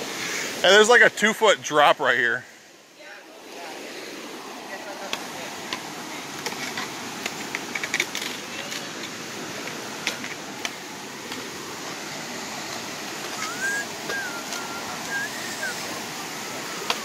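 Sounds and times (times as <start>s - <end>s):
creek rushing: 0.0s - 17.0s.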